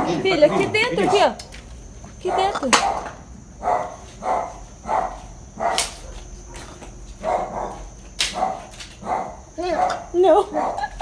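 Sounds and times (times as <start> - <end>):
dog barking: 0.0 - 1.4, 2.2 - 11.0.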